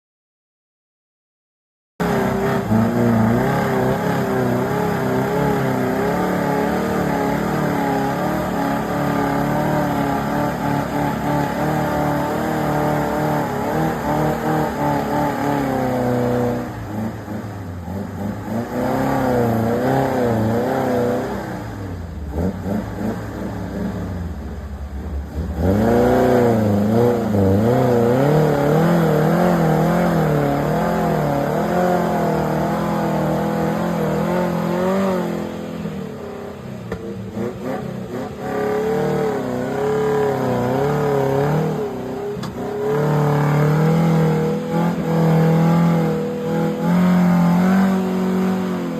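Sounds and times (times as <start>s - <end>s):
off-road vehicle engine revving: 2.0s - 48.9s.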